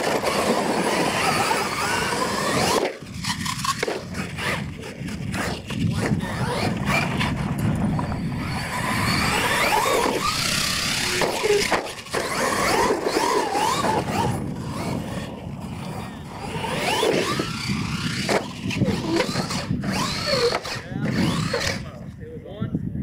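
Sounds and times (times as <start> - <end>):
toy truck electric motor whining: 0.0 - 21.9
truck rumbling on dirt track: 0.0 - 22.1.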